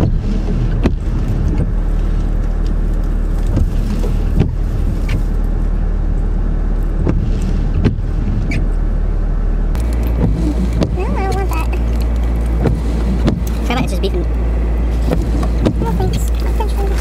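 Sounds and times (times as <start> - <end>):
car engine idling hum: 0.0 - 17.0.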